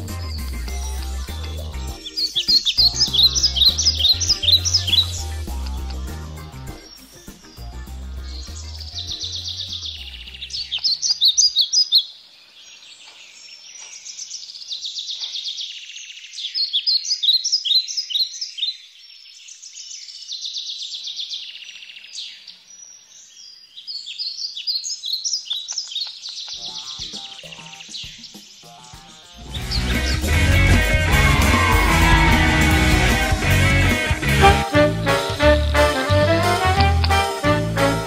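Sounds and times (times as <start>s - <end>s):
bird-like chirps and trills: 0.0s - 30.9s.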